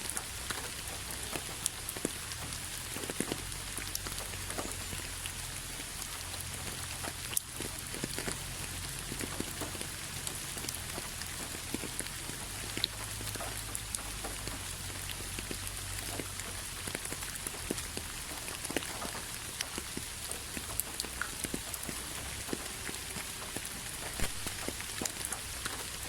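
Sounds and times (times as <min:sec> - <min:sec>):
rain hissing: 0:00.0 - 0:26.0
raindrops tapping: 0:00.0 - 0:26.0.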